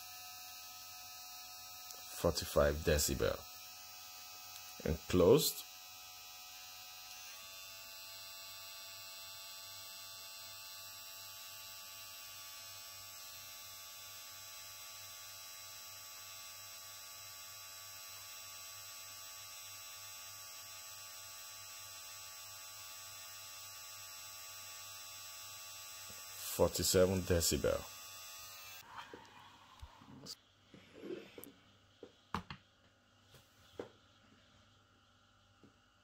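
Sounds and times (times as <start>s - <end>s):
hair clipper motor hum: 0.0s - 28.9s.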